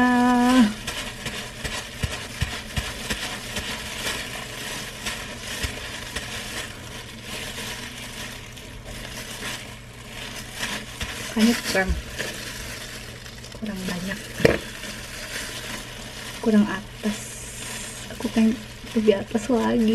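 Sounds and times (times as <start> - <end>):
wet squishing of hair dye: 0.0 - 19.9.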